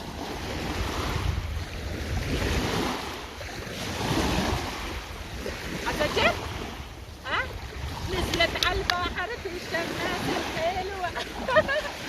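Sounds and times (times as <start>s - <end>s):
sea waves washing on shore: 0.0s - 12.0s
wind buffeting microphone: 0.0s - 12.0s.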